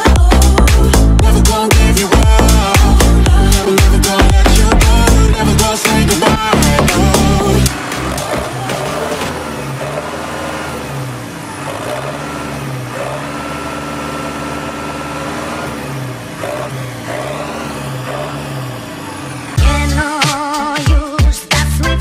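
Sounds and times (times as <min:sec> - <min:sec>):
tractor diesel engine revving: 0:00.0 - 0:20.2.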